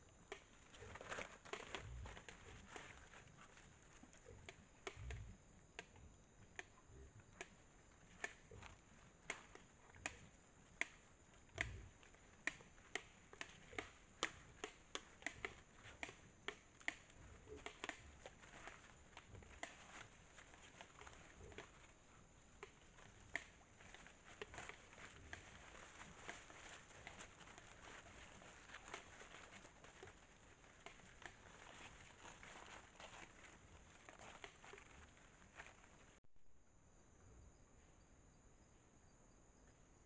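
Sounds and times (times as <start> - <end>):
animals chewing hard corn: 0.0 - 36.2.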